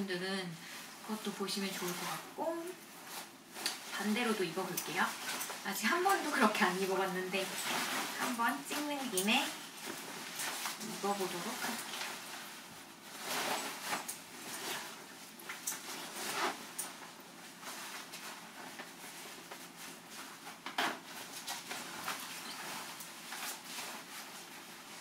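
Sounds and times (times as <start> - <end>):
nylon jacket rustling: 1.0 - 25.0.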